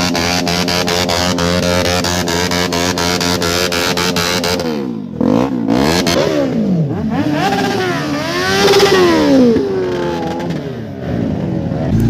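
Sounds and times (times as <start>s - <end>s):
vehicle engines revving and passing: 0.0s - 12.0s.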